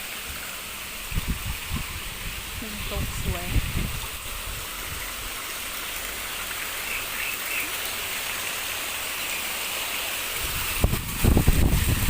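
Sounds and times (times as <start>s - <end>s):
waterfall splashing: 0.0s - 12.0s.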